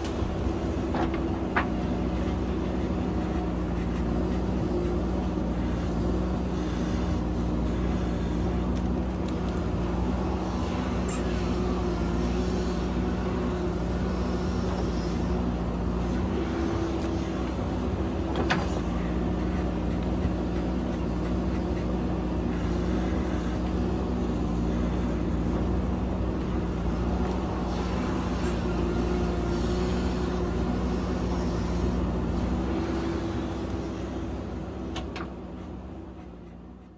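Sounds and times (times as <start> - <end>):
diesel engine running under load: 0.0 - 36.9.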